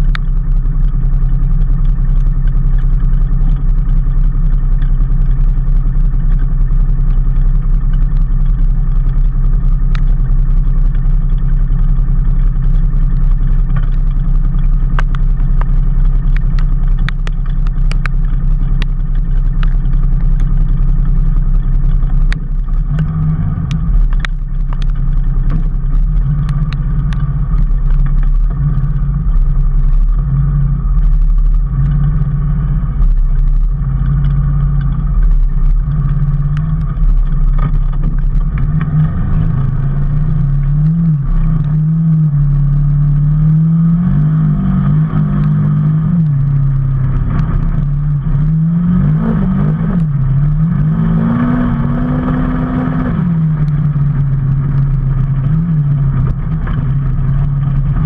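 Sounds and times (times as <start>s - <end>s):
sharp ticks: 0.0s - 58.0s
vehicle engine running: 0.0s - 58.0s.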